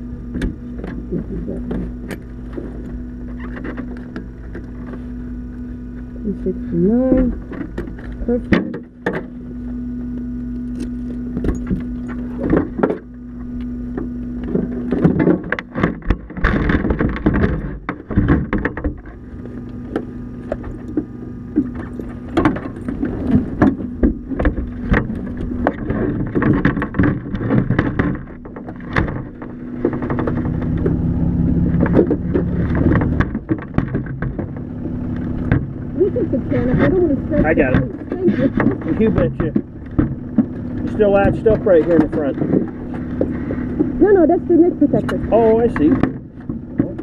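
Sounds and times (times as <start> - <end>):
gear knocking and rustling: 0.0 - 47.0
low engine rumble: 0.0 - 47.0
steady hum: 0.0 - 47.0.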